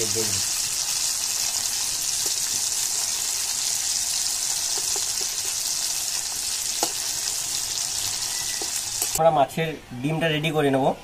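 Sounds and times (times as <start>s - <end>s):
fish sizzling in hot oil: 0.0s - 9.2s.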